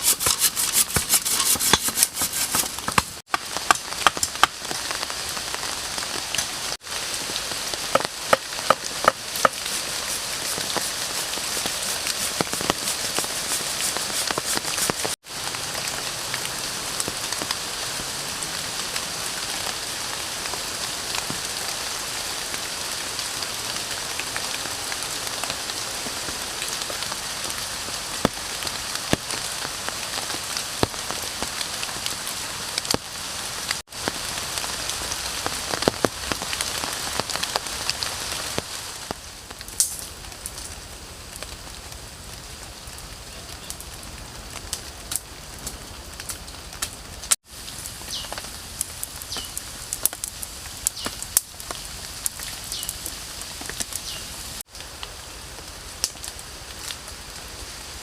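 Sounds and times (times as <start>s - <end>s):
steady rain with drop ticks: 3.2s - 58.0s.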